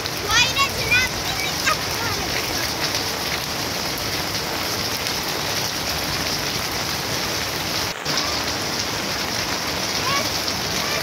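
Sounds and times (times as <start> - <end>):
rain on wet paving: 0.0 - 11.0.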